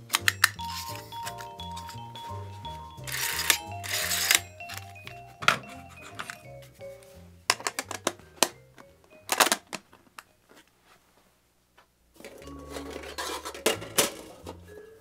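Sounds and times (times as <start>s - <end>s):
soft background music: 0.0s - 10.9s, 12.2s - 15.0s.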